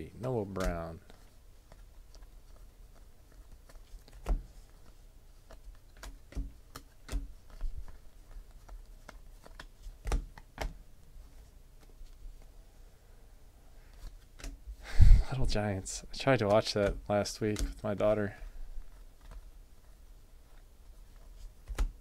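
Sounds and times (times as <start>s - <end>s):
cards flicking and scraping: 0.2s - 12.5s, 13.8s - 14.6s, 16.2s - 22.0s.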